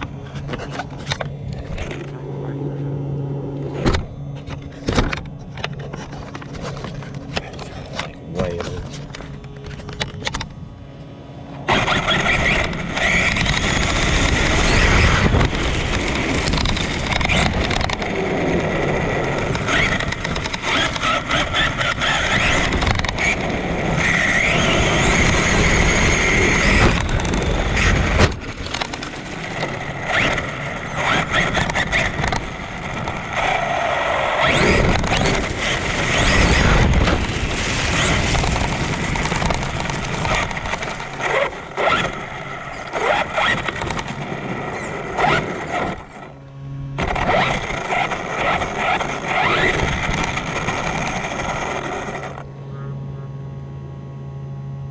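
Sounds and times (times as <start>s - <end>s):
electric motor whine: 0.0s - 54.9s.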